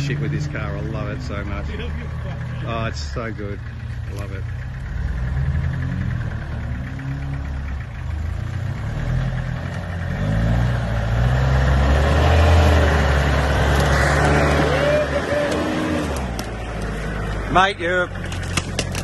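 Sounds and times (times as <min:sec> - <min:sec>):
engine labouring uphill: 0:00.0 - 0:19.0.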